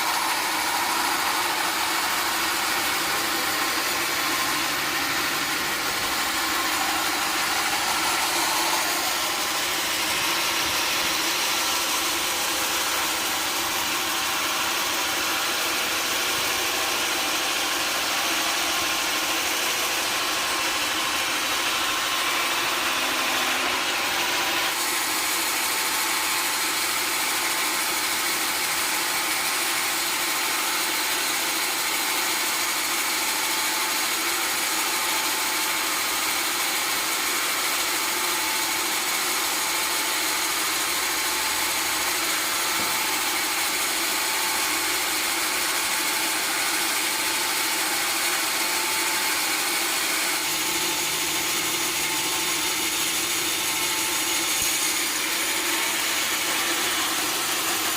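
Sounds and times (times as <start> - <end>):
saw cutting timber: 0.0 - 57.9.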